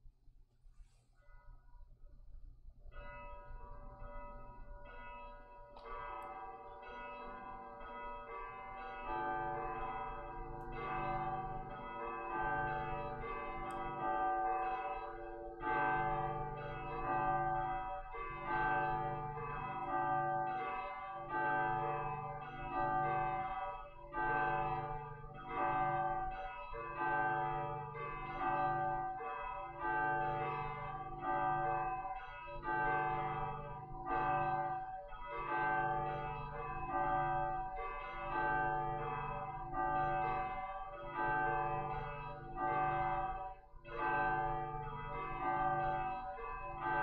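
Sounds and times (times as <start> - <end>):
church bell ringing: 2.9 - 47.0.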